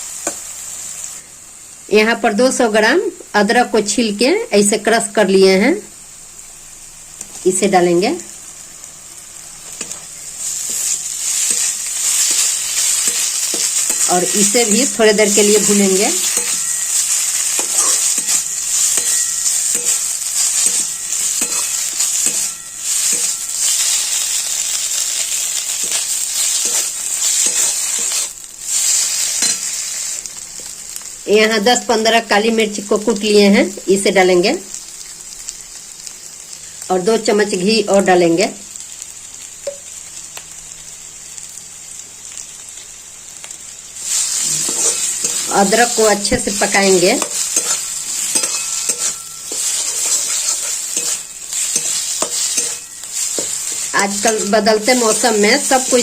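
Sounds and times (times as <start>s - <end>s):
ginger sizzling in hot ghee: 0.0s - 56.0s.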